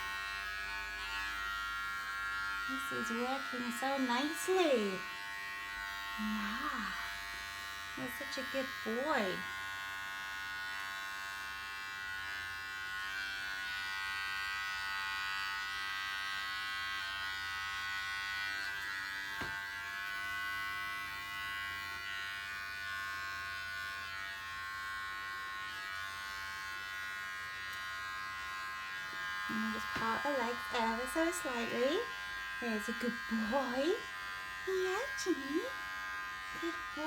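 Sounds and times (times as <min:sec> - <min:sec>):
electric cat trimmer running: 0:00.0 - 0:37.0.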